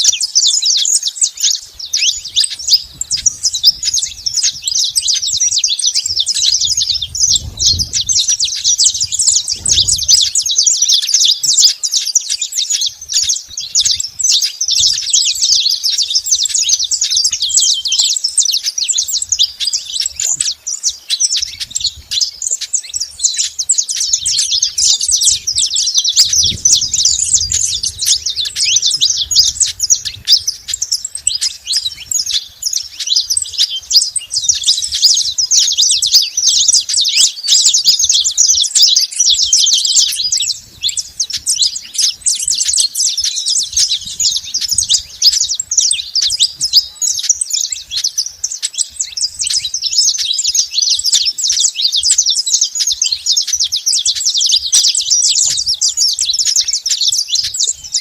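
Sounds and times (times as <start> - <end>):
finch singing high chirps: 0.0 - 58.0.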